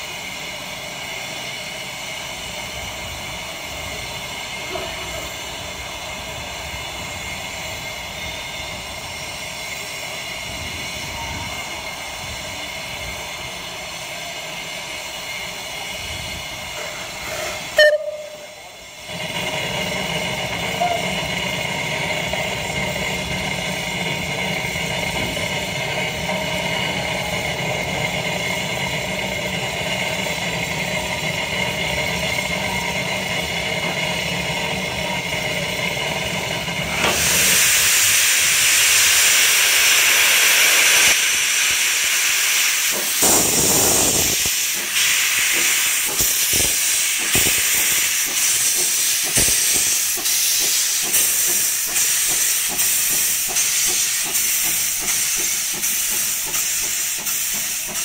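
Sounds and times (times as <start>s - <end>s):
locomotive humming: 0.0s - 58.0s
steam venting hiss: 0.0s - 58.0s.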